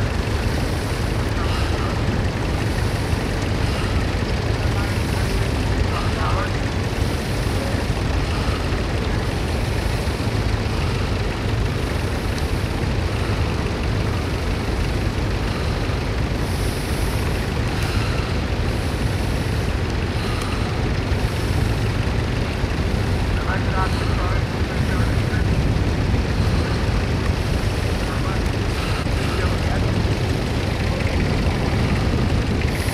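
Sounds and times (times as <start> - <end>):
tractor engine rumbling: 0.0 - 32.9.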